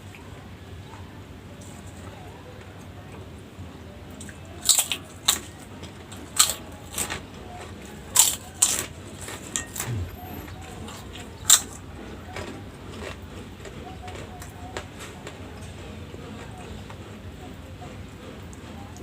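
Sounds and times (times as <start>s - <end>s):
chewing crunchy food: 2.7s - 19.0s.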